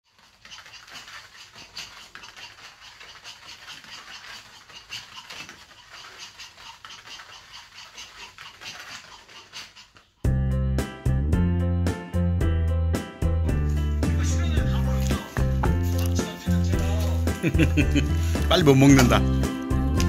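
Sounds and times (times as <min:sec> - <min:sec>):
dog paws pattering: 0:00.0 - 0:10.3, 0:13.5 - 0:20.0.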